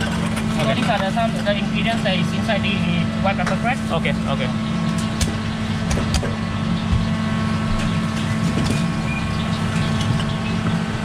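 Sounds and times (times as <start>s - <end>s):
kitchen equipment mechanical hum: 0.0s - 11.0s.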